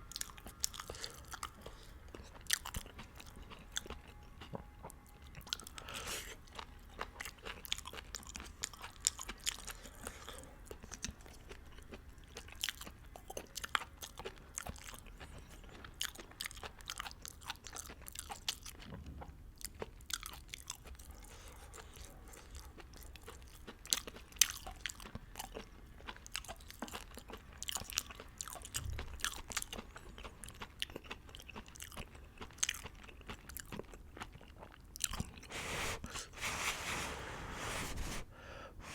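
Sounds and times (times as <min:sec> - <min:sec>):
chewing noodles: 0:00.0 - 0:36.6.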